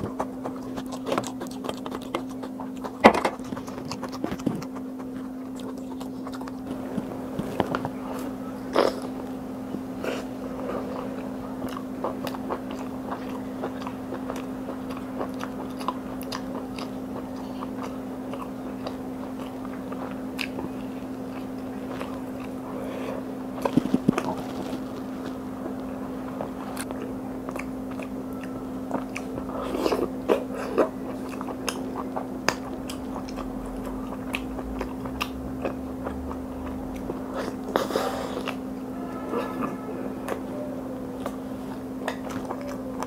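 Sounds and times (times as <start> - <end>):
close chewing and biting: 0.0 - 38.7, 39.3 - 43.0
steady low hum: 0.0 - 43.0.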